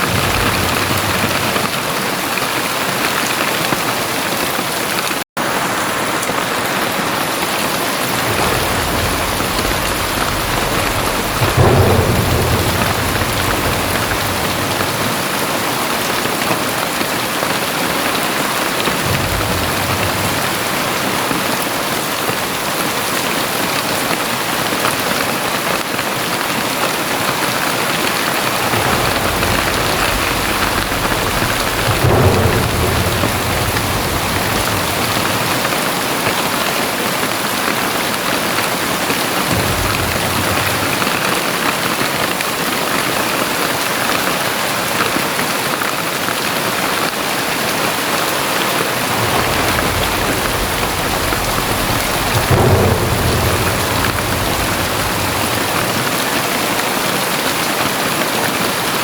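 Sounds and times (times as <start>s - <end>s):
heavy rain pouring: 0.0s - 59.0s
thunder rolling: 0.0s - 59.0s.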